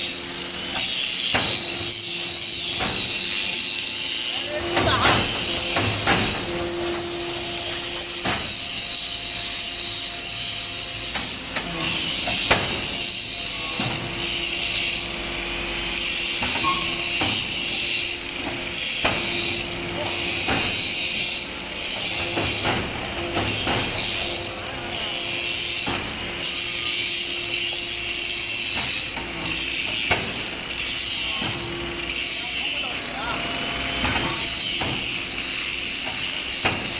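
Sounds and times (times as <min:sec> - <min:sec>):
brick machine humming: 0:00.0 - 0:36.9
sharp metal knocks and clanks: 0:00.6 - 0:09.7, 0:10.6 - 0:15.0, 0:16.0 - 0:32.0, 0:34.0 - 0:36.9.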